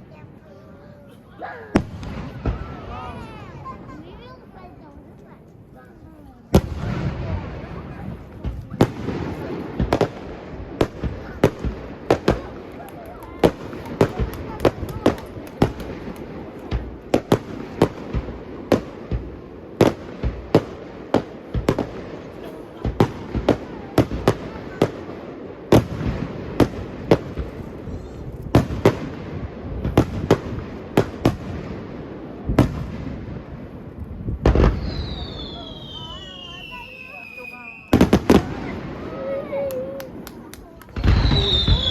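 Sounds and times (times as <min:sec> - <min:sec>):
fireworks bangs: 0:00.0 - 0:05.4, 0:06.0 - 0:41.9
continuous background noise: 0:00.0 - 0:41.9.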